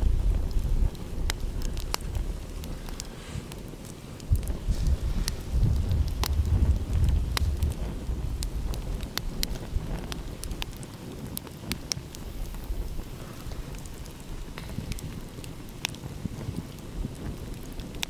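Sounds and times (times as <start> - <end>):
campfire crackling and popping: 0.0 - 18.0
steady low rumble: 0.0 - 18.0.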